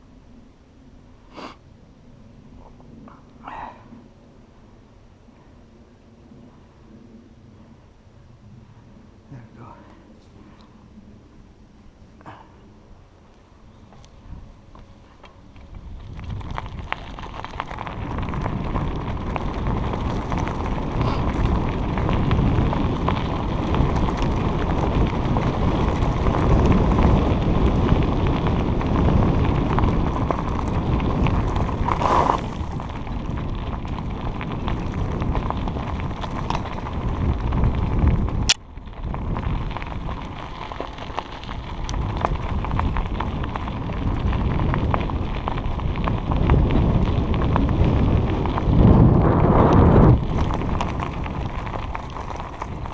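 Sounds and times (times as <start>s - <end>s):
bicycle tyres rolling on dirt: 0.0s - 52.9s
wind buffeting microphone: 2.0s - 52.9s.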